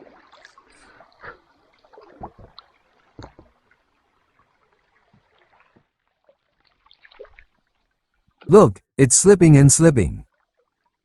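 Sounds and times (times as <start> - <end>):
small water splashes and gurgles: 0.0 - 8.4, 10.3 - 11.0
faint river water: 0.0 - 11.0.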